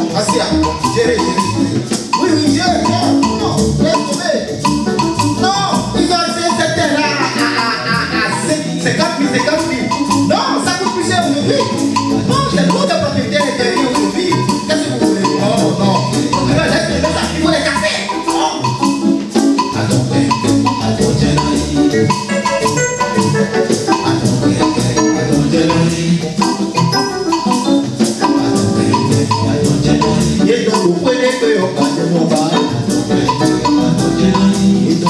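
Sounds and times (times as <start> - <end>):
music with percussion beat: 0.0 - 35.0.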